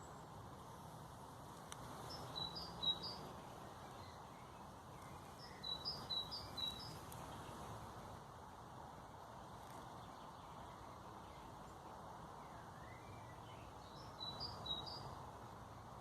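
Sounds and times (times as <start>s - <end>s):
songbird chirping: 0.0s - 8.0s, 9.3s - 16.0s
steady background hiss: 0.0s - 16.0s.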